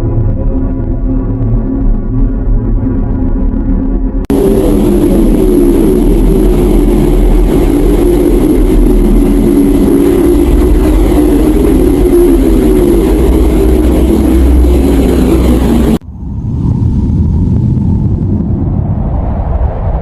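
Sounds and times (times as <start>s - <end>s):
low droning rumble: 0.0s - 20.0s.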